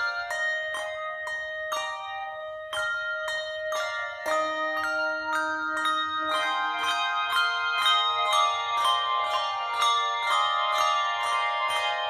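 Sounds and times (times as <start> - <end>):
handbell choir playing: 0.0 - 12.0
lower bell ringing: 0.0 - 12.0.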